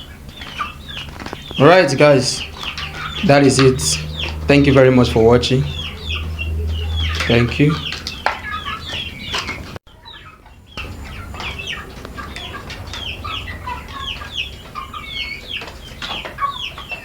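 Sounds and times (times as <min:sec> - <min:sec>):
chickens chirping and clucking: 0:00.0 - 0:17.0.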